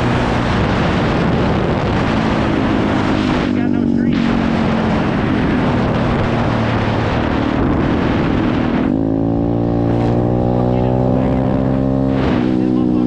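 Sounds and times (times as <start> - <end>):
motorbike engine running: 0.0 - 13.0
wind rush on microphone: 0.0 - 13.0.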